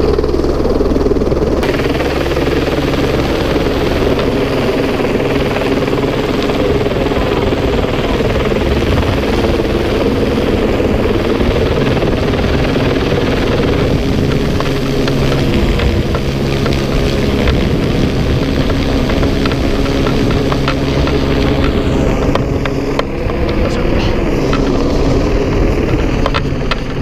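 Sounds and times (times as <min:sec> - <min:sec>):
helicopter running: 0:00.0 - 0:27.0.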